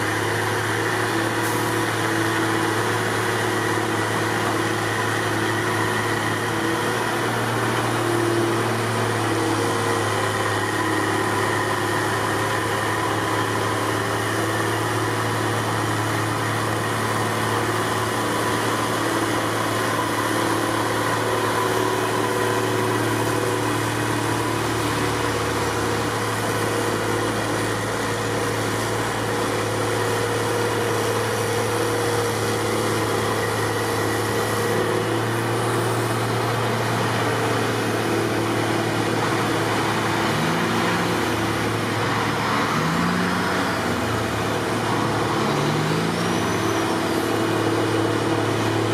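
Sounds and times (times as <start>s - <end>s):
heavy diesel engines humming: 0.0s - 48.9s.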